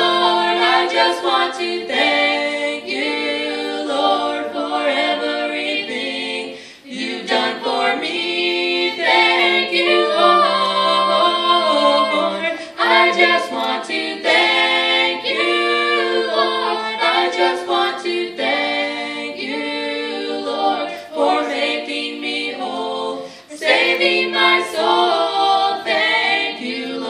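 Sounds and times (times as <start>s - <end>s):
a cappella gospel singing in harmony: 0.0s - 27.0s.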